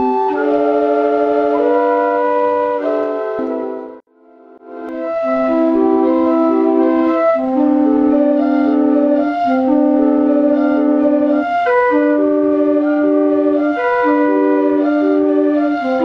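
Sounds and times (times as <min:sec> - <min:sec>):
pipe organ playing: 0:00.0 - 0:16.0.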